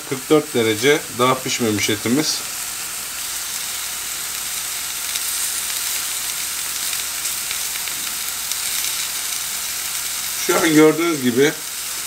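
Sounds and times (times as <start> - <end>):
steaks sizzling in grill pan: 0.0 - 12.0.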